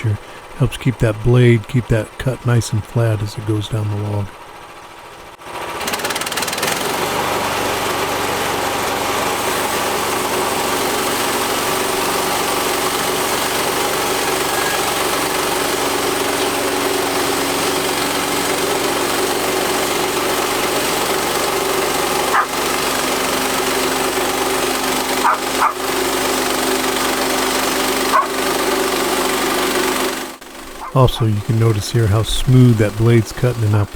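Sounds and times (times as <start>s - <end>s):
bandsaw mill cutting log: 0.0s - 33.9s.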